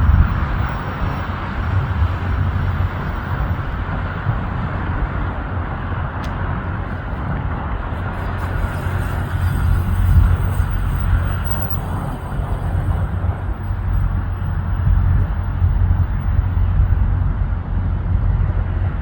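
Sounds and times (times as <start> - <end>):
jet engine rumbling: 0.0 - 19.0.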